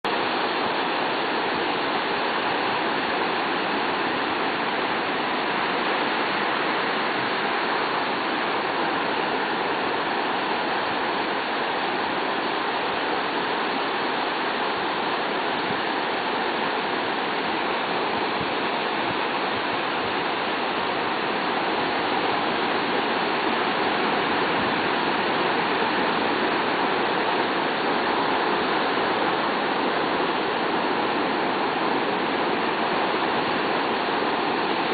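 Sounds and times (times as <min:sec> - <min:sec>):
ocean surf breaking on beach: 0:00.1 - 0:34.9.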